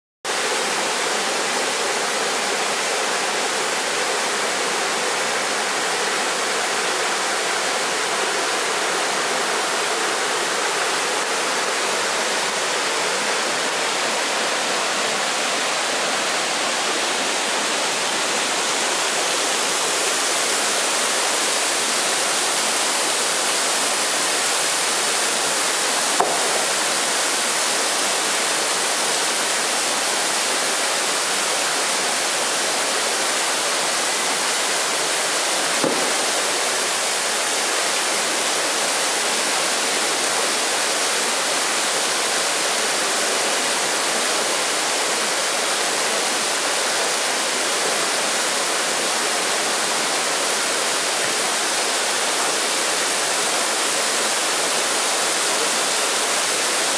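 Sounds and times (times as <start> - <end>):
water rushing over rocks: 0.3 - 56.9.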